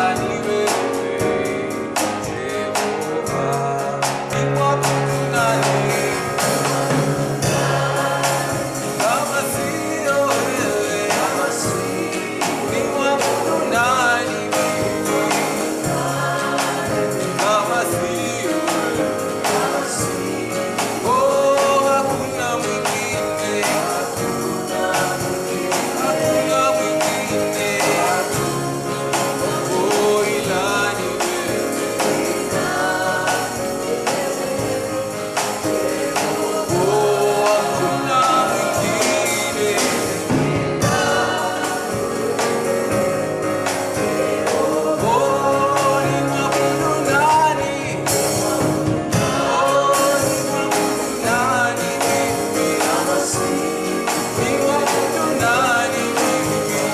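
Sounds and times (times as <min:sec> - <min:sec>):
group of singers: 0:00.0 - 0:56.9
steady beat: 0:00.0 - 0:56.9.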